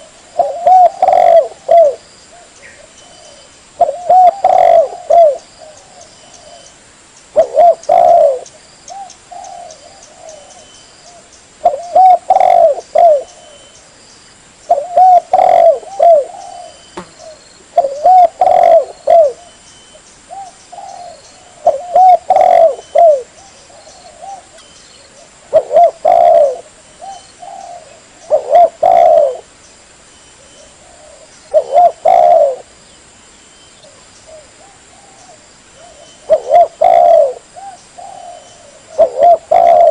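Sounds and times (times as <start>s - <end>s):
dove cooing: 0.0s - 6.7s, 7.3s - 13.8s, 14.7s - 19.6s, 20.3s - 29.5s, 30.5s - 32.7s, 33.8s - 39.9s.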